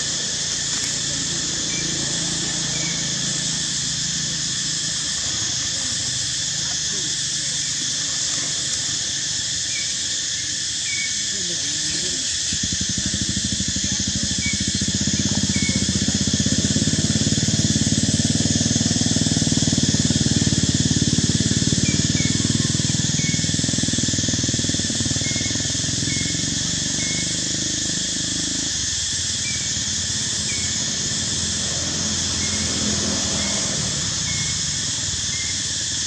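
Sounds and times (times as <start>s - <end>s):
high-pitched hiss: 0.0s - 36.0s
vehicle engine rumbling: 0.0s - 36.0s.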